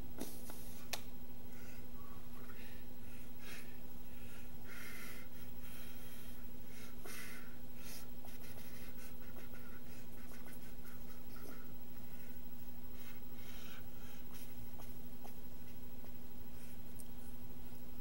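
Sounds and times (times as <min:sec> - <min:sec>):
electrical hum and hiss: 0:00.0 - 0:18.0.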